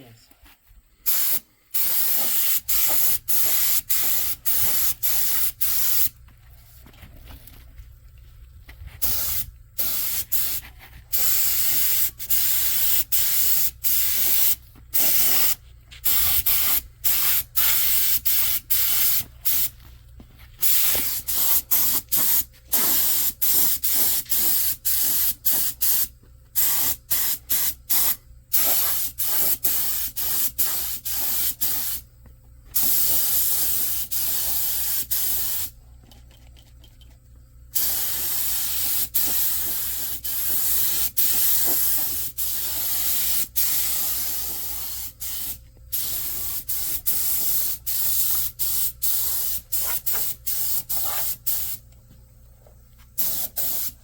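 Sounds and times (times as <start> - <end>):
paint spray gun hissing: 1.1 - 6.2, 9.0 - 19.7, 20.6 - 32.0, 32.8 - 35.8, 37.7 - 51.8, 53.2 - 54.0.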